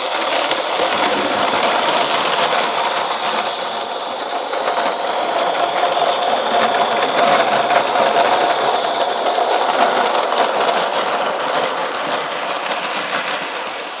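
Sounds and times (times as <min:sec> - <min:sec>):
steam hiss: 0:00.0 - 0:14.0
steam locomotive exhaust beats: 0:00.0 - 0:14.0.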